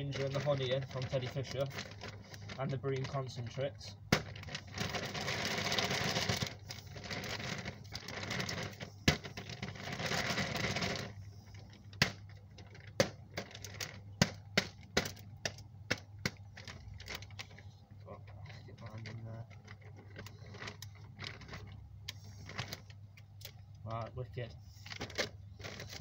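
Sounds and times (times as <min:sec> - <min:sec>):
plastic bag rustling and crinkling: 0:00.0 - 0:26.0.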